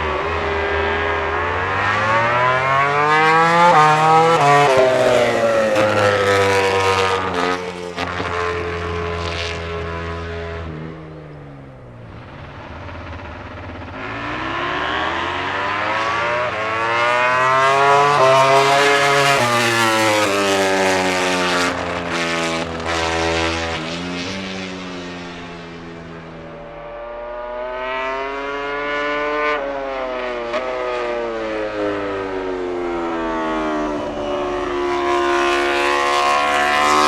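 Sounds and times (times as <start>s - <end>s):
motorcycle engine at high revs: 0.0s - 37.0s.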